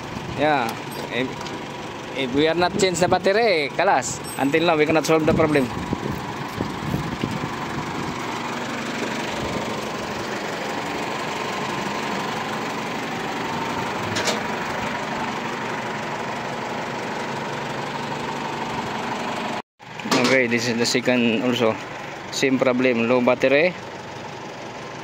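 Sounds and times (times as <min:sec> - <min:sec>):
machine engine idling: 0:00.0 - 0:25.0.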